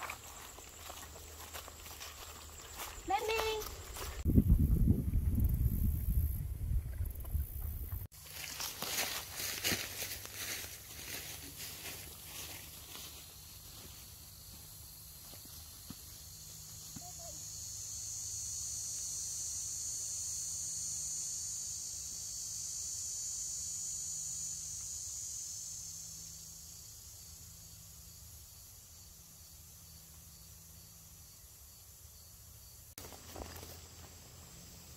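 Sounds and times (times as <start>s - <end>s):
insects buzzing: 0.0s - 4.4s, 5.4s - 34.9s.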